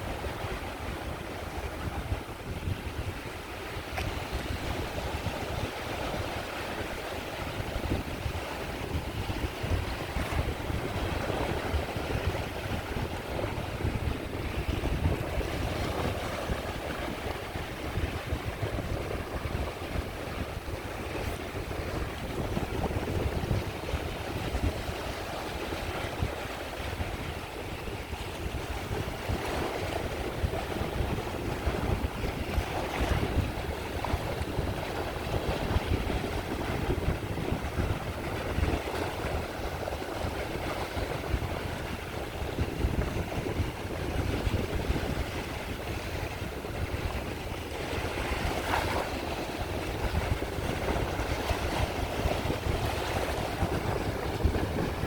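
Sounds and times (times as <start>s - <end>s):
sea waves breaking on shore: 0.0s - 55.0s
wind rumble on microphone: 0.0s - 55.0s.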